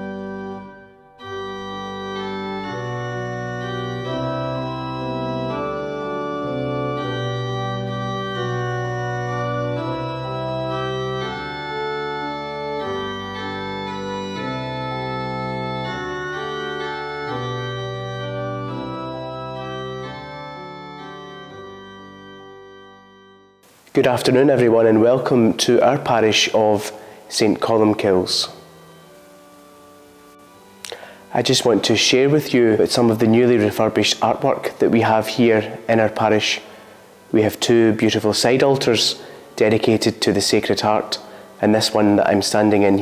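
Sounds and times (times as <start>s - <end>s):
organ playing slow chords: 0.0s - 43.0s.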